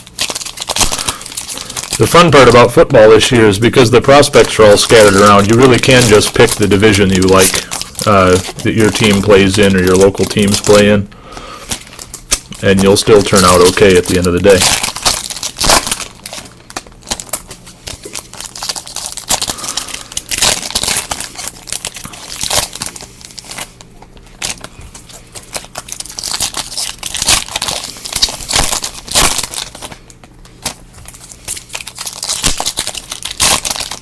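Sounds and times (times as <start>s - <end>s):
plastic wrapping crinkling and tearing: 0.0s - 34.0s.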